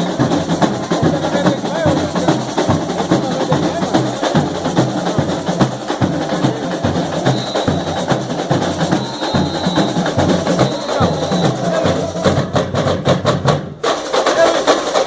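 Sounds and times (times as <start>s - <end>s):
bass drums beating: 0.0s - 14.5s
hand percussion: 0.0s - 15.0s
samba drumming: 0.0s - 15.0s
snare drums: 0.0s - 15.0s.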